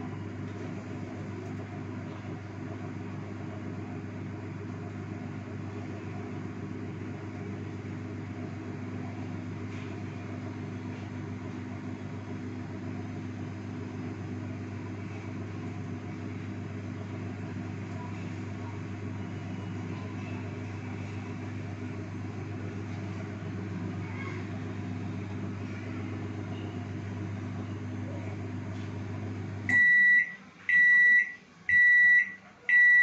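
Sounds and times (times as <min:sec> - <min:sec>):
microwave oven humming: 0:00.0 - 0:33.0.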